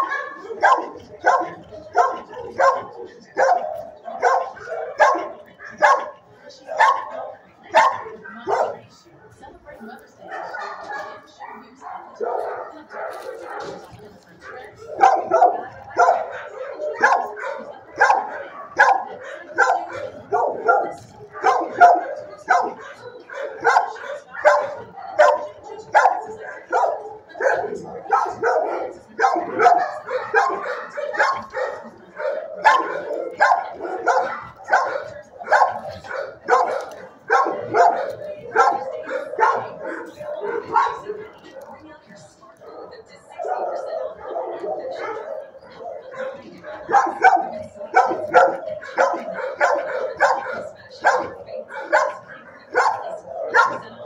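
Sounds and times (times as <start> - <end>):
dogs barking: 0.0 - 8.9, 10.2 - 41.8, 42.5 - 54.0.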